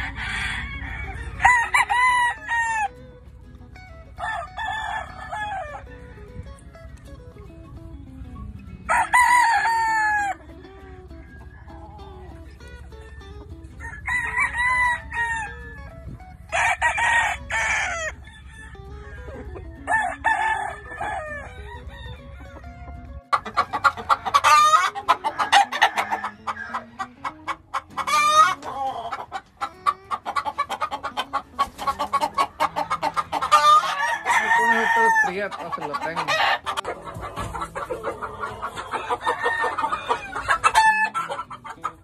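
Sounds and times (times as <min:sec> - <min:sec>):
roosters crowing: 0:00.0 - 0:07.5, 0:08.4 - 0:42.0
birds clucking: 0:00.0 - 0:42.0.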